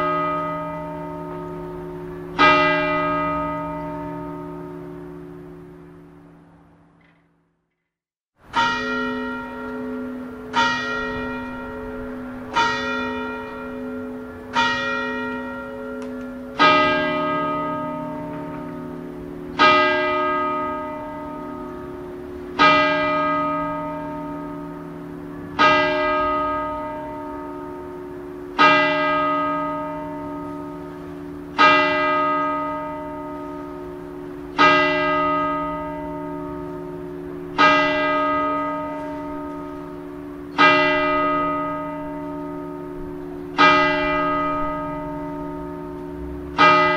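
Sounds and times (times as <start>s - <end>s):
church bell tolling: 0.0s - 7.1s, 8.5s - 46.9s
deeper bell tolling slowly: 8.6s - 46.9s.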